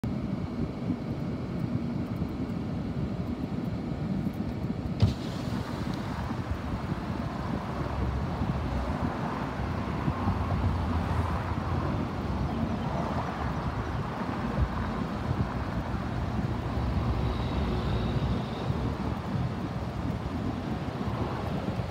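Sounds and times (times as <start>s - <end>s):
low rumble of road traffic: 0.0s - 21.9s.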